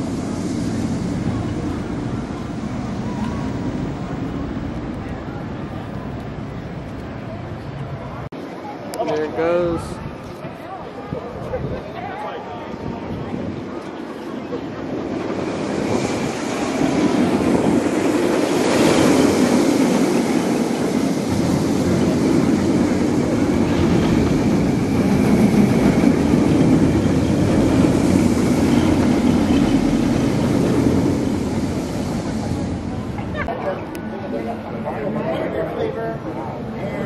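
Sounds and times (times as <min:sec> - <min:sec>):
roller coaster train rumbling: 0:00.0 - 0:37.0.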